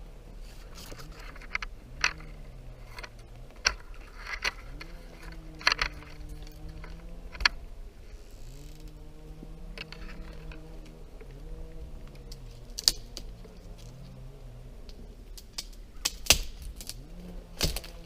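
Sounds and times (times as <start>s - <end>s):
distant engine drone: 0.0s - 18.0s
sharp snaps and crackles: 0.0s - 18.0s.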